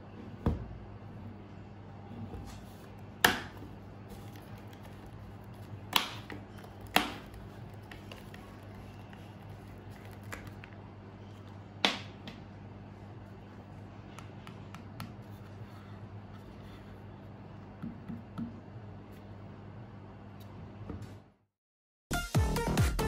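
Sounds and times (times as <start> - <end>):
low steady hum: 0.0 - 21.4.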